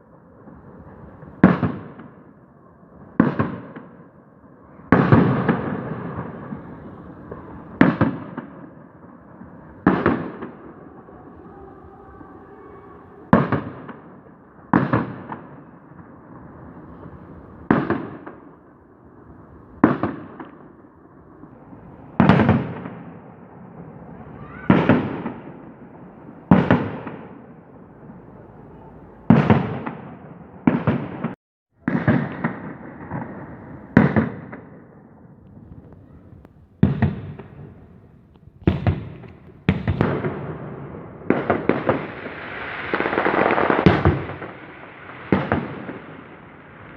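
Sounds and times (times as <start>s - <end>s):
fireworks bangs with rolling echo: 0.0s - 46.9s.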